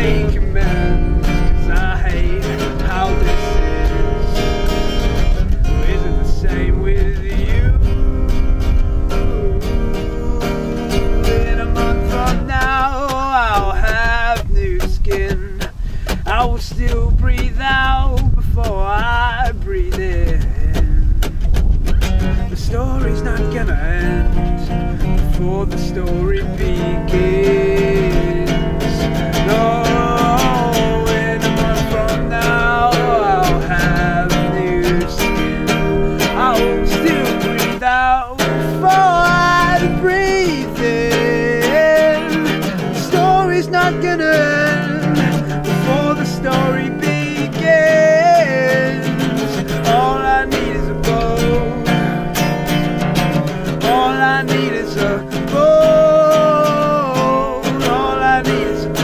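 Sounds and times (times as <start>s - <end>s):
man singing: 0.0s - 21.2s, 22.3s - 59.0s
acoustic guitar strumming: 0.0s - 59.0s.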